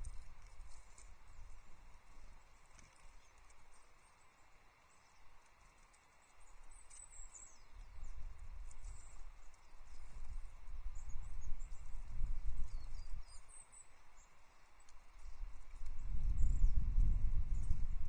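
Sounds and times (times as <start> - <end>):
small birds chirping: 2.7 - 18.0.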